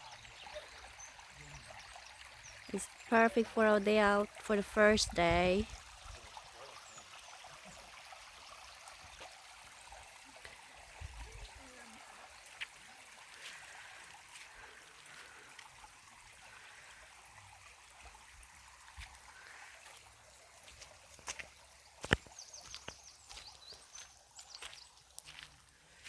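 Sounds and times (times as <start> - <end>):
stream trickling: 0.0 - 26.0.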